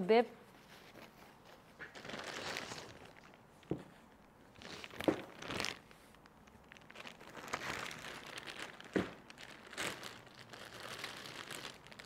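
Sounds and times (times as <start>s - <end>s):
paper crinkling: 0.6s - 3.6s, 4.5s - 12.0s.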